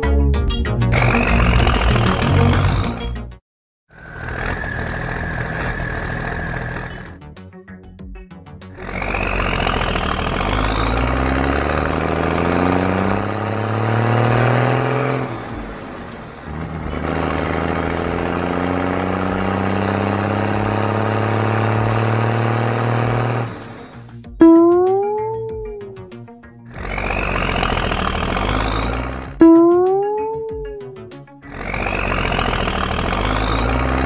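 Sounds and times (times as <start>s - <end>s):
truck engine accelerating: 0.0s - 7.3s, 8.6s - 34.0s.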